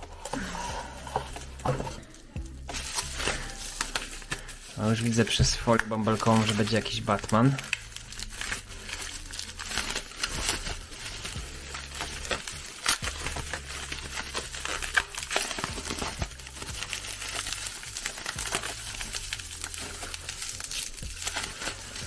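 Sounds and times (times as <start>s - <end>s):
bubble wrap crackling: 0.0s - 22.0s
plastic packaging rustling: 0.0s - 22.0s.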